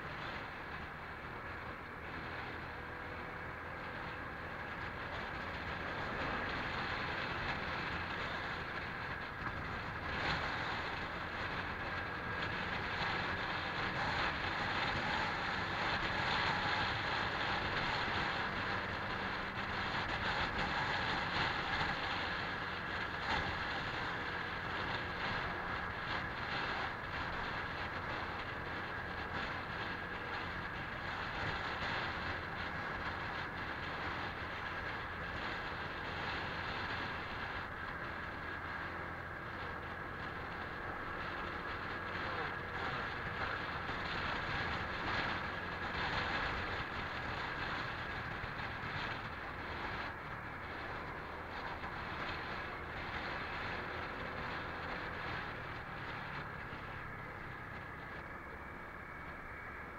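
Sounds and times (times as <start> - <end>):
scooter engine running: 0.0 - 59.9
wind and road noise: 0.0 - 59.9.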